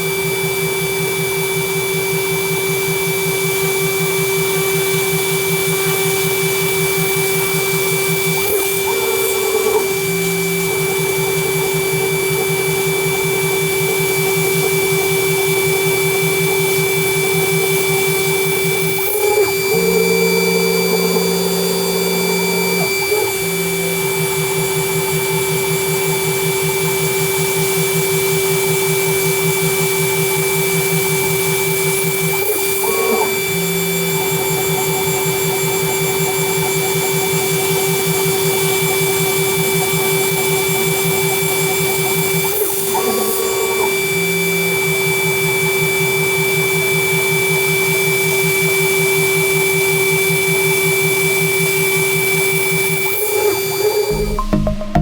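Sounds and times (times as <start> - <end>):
router spindle whine: 0.0 - 54.6.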